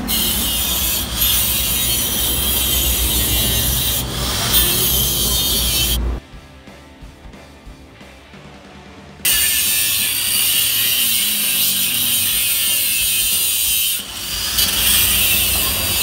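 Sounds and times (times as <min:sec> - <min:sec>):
welding torch hissing: 0:00.0 - 0:06.1, 0:09.3 - 0:16.0.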